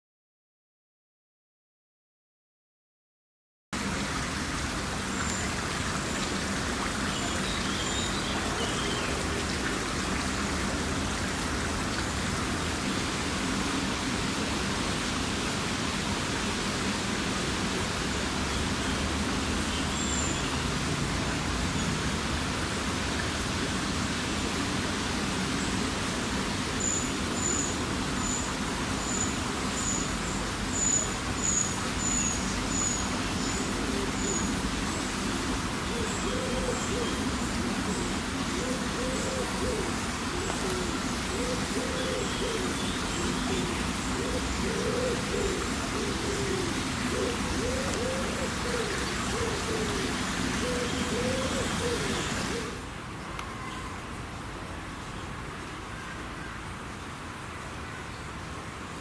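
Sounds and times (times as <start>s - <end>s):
outdoor background hiss: 3.8s - 59.0s.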